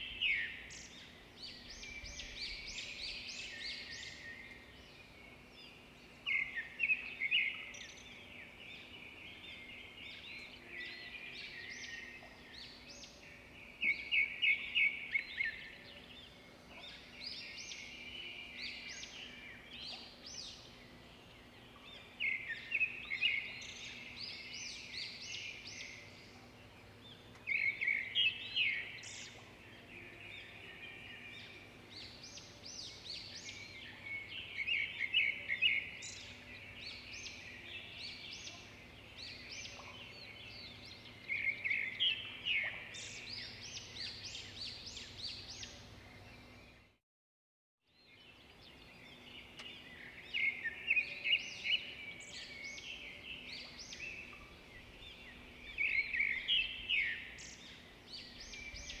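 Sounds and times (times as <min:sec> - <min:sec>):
small birds chirping and singing: 0:00.0 - 0:47.0, 0:47.9 - 0:59.0.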